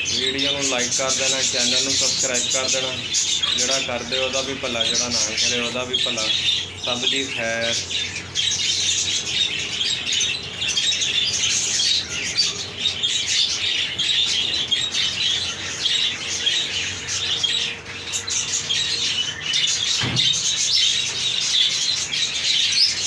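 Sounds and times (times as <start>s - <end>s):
budgerigars chattering and squawking: 0.0s - 23.0s.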